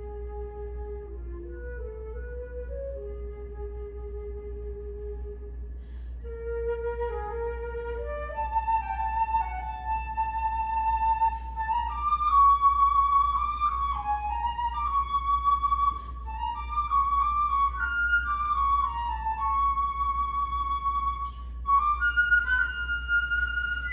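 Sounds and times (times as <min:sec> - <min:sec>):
solo flute melody: 0:00.0 - 0:23.9
steady low hum: 0:00.0 - 0:23.9.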